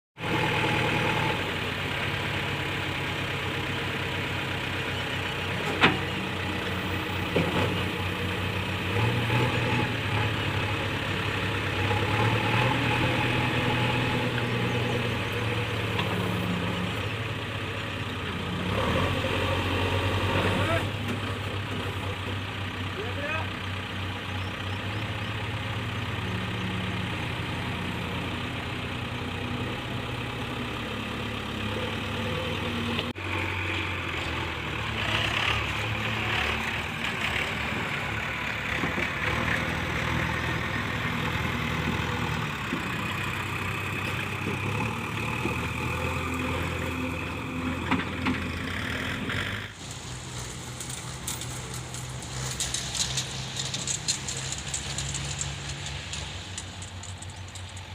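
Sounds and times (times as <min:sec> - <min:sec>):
diesel engine running: 0:00.2 - 0:57.9.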